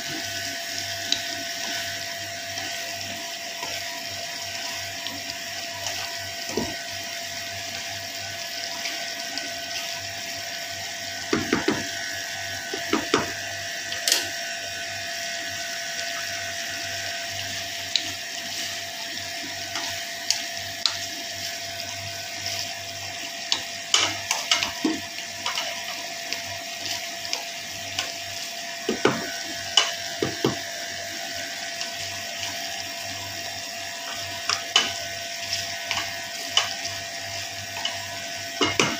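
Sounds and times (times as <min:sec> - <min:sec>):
chicken sizzling in a frying pan: 0:00.0 - 0:38.9.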